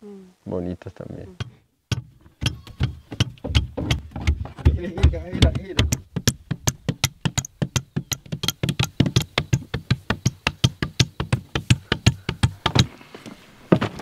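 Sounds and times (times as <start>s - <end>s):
wooden rammers thudding on earth: 1.4s - 14.0s.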